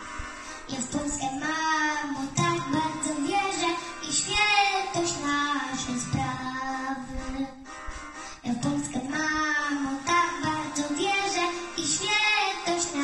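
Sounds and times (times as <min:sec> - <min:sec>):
musical accompaniment: 0:00.0 - 0:13.0
boy singing into a microphone: 0:00.6 - 0:07.8, 0:08.4 - 0:13.0.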